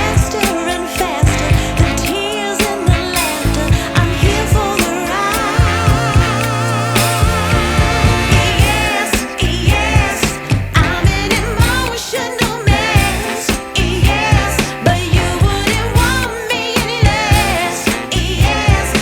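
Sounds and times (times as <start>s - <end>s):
pop-soul song with woman singing: 0.0s - 19.0s.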